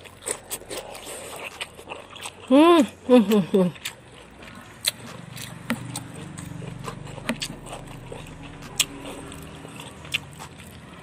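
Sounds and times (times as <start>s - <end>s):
low steady hum: 0.0s - 11.0s
person chewing food: 0.0s - 11.0s.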